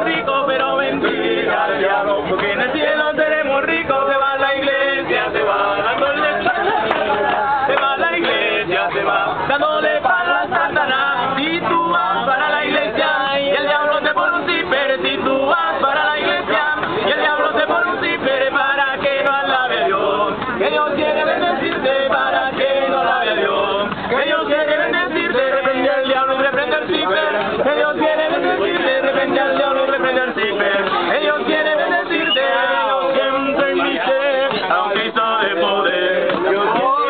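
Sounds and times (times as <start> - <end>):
men singing together unaccompanied: 0.0 - 37.0.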